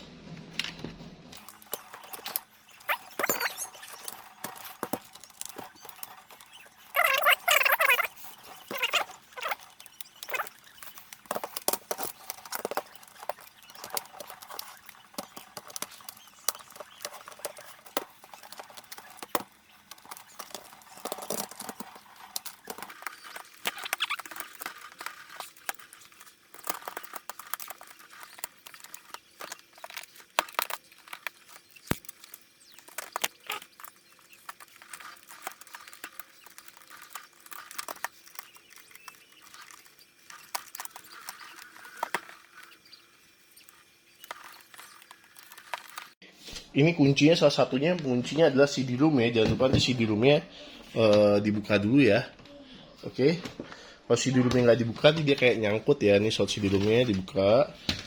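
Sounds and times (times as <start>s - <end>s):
plastic card scraping: 1.4s - 46.6s, 53.1s - 58.0s.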